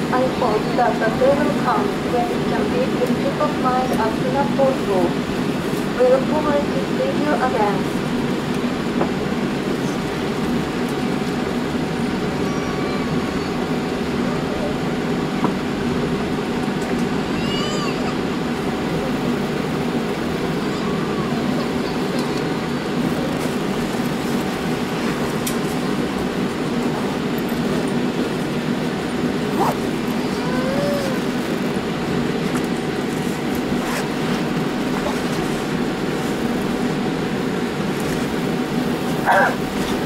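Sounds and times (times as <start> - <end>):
airplane cabin rumble: 0.0 - 40.0.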